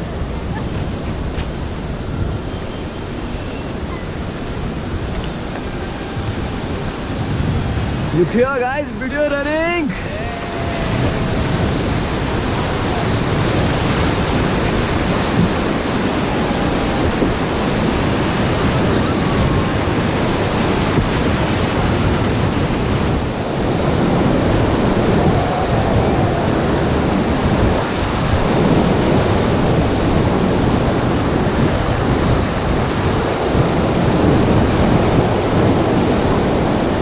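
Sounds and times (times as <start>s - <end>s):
whitewater rushing: 0.0s - 37.0s.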